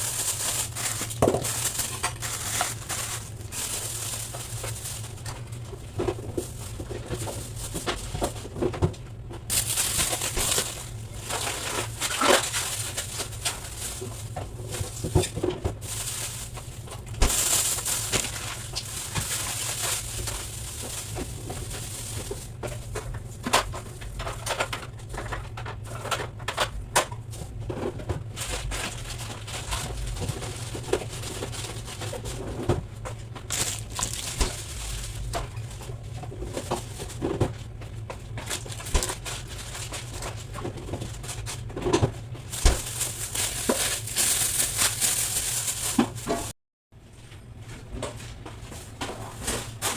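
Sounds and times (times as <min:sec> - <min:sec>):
items knocking and clicking: 0:00.0 - 0:45.2.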